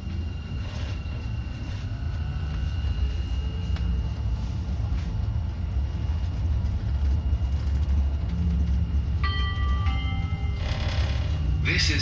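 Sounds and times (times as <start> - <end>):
tram running on rails: 0.0 - 12.0.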